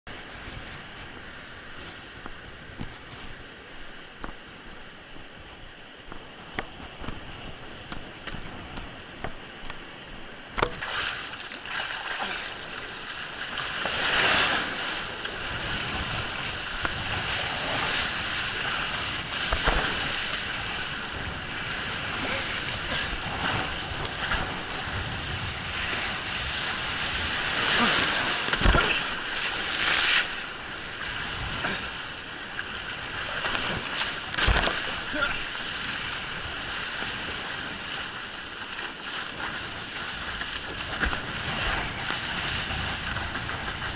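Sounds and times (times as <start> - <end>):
water rushing and splashing: 0.1 - 43.9
wind buffeting microphone: 0.1 - 43.9.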